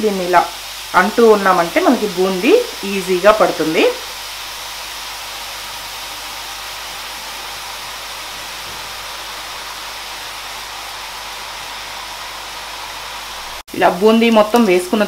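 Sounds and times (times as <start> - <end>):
deep frying sizzle: 0.0 - 15.0.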